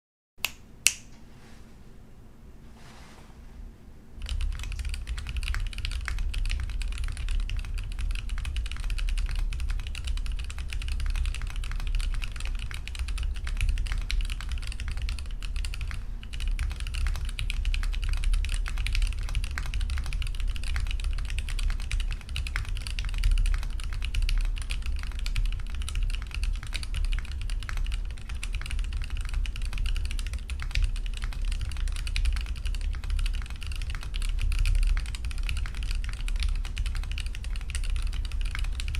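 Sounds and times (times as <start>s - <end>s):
fast typing on mechanical keyboard: 4.2s - 38.9s.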